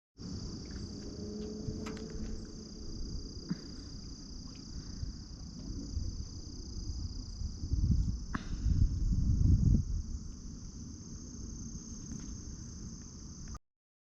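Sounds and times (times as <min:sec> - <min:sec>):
insect chorus buzzing: 0:00.2 - 0:13.6
low rumble: 0:00.3 - 0:13.0.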